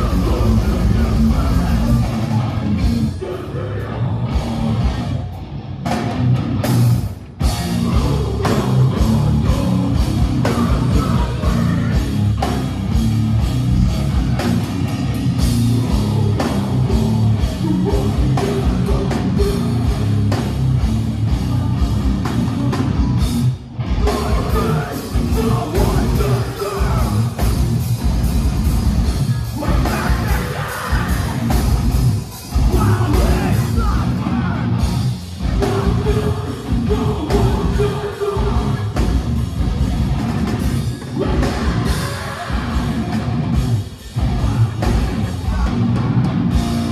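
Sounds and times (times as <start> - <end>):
vocals: 0.0 - 5.5, 7.2 - 28.2, 29.0 - 46.9
drum kit: 0.0 - 46.9
electric guitars: 0.0 - 46.9
heavy band playing live: 0.0 - 46.9.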